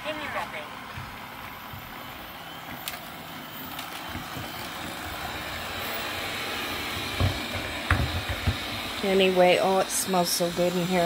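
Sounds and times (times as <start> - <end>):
robot vacuum motor whooshing: 2.1 - 11.0.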